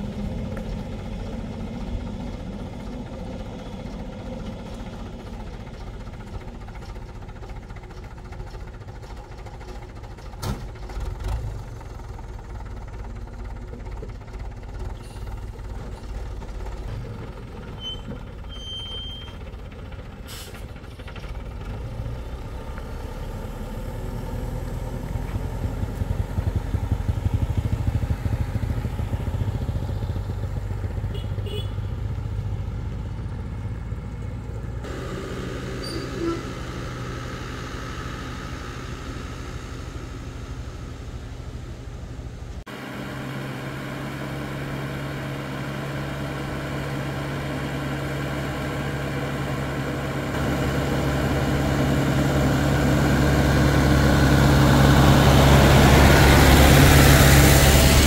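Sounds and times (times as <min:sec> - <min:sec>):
diesel truck engine: 0:00.0 - 0:58.0
truck engine approaching: 0:00.0 - 0:58.0.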